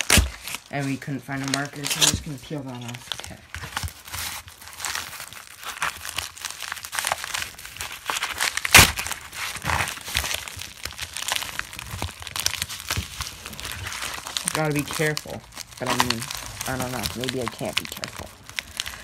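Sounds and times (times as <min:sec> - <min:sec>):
package wrapping crinkling and tearing: 0:00.0 - 0:19.0.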